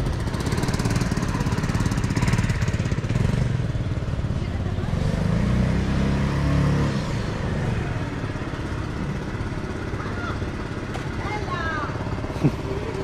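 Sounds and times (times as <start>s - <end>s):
steady street hum: 0.0s - 13.0s
vehicle engine passing: 0.0s - 13.0s.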